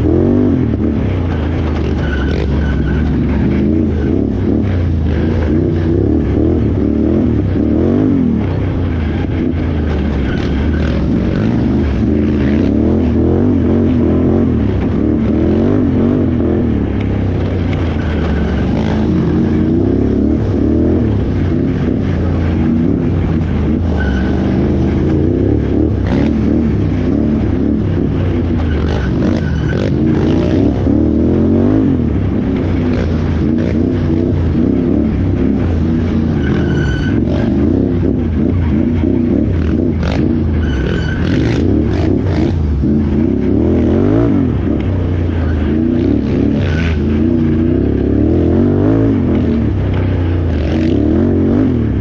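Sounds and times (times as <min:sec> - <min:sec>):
atv engine revving: 0:00.0 - 0:52.0.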